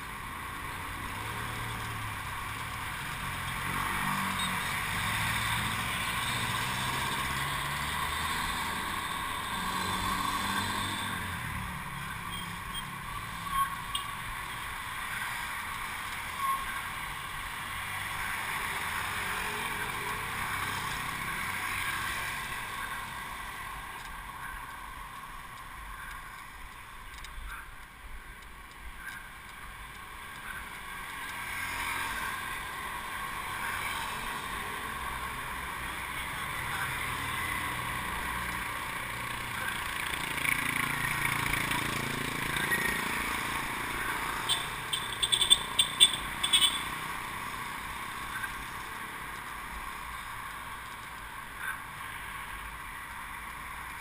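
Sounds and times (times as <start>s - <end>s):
motor traffic passing: 0.0s - 27.0s, 28.5s - 54.0s
wind and road rush: 0.0s - 54.0s.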